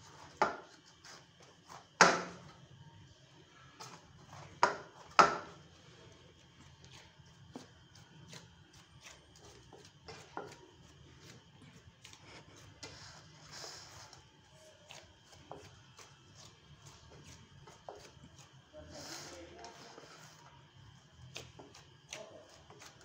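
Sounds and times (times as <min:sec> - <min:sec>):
hands kneading dough in steel bowl: 0:03.5 - 0:23.0.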